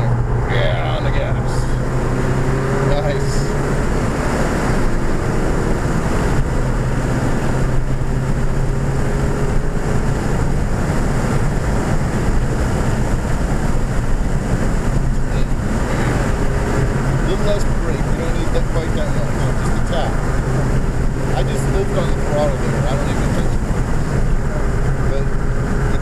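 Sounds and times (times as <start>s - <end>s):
car engine droning: 0.0s - 26.0s
road and wind noise: 0.0s - 26.0s.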